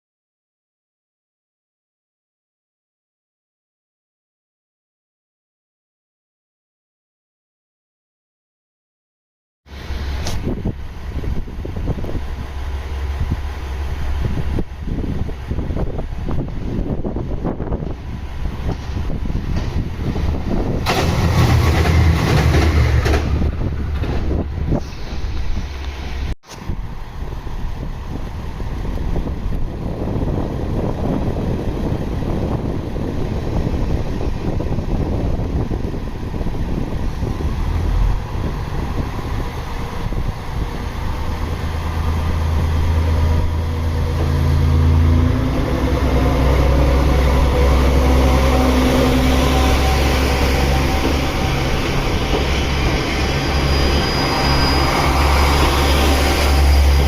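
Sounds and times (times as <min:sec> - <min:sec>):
diesel railcar engine: 0:09.7 - 0:57.0.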